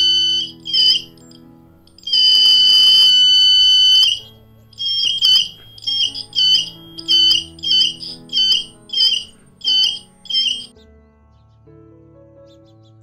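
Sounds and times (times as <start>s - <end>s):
metal detector buzzer beeping: 0.0s - 10.7s.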